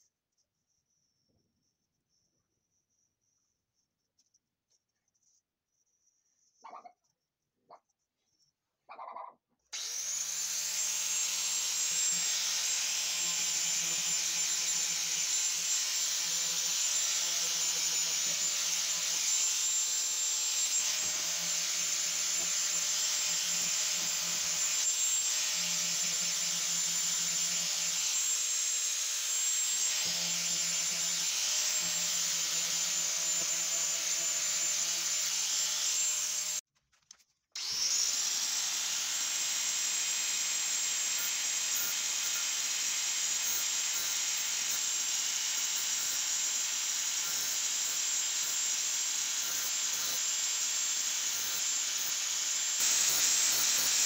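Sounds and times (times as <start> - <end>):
angle grinder grinding metal: 9.8 - 36.6, 37.6 - 54.0.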